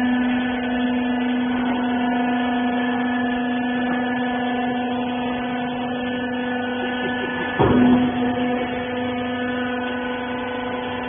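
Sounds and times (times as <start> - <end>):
electric motor and pump hum: 0.0 - 11.0.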